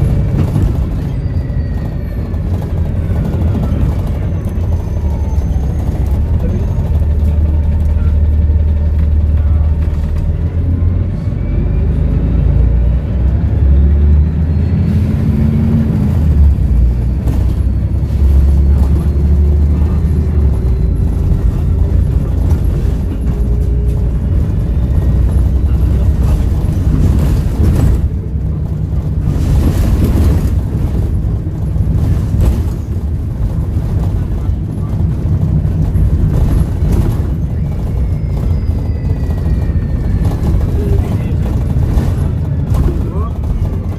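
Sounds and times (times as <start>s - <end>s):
bus diesel engine rumbling: 0.0s - 43.9s.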